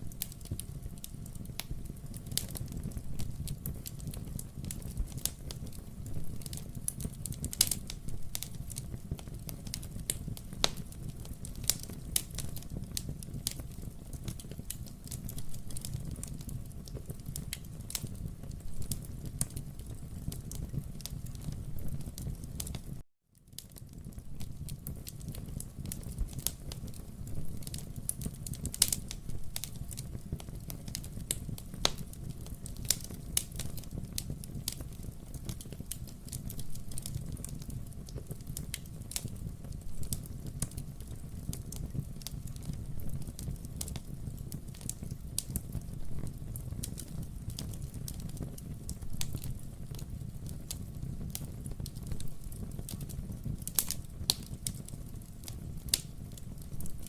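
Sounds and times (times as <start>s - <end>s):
fireplace crackling and popping: 0.0s - 57.0s
low rumble of flames: 0.0s - 57.0s.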